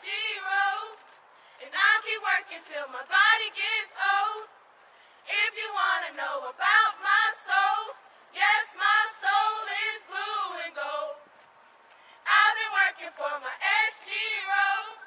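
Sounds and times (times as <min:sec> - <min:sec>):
women singing a cappella chant: 0:00.0 - 0:01.0, 0:01.6 - 0:04.5, 0:05.2 - 0:11.3, 0:12.2 - 0:15.0.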